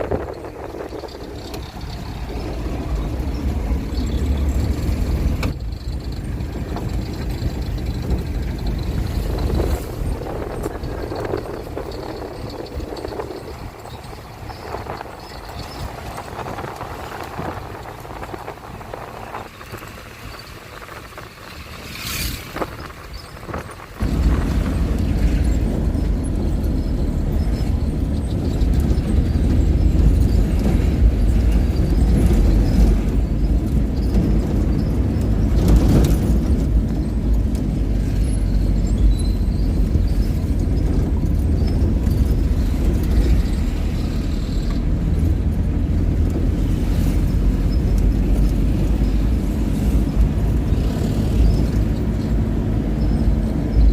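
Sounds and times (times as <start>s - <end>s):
road vehicle rumble: 0.0s - 53.9s.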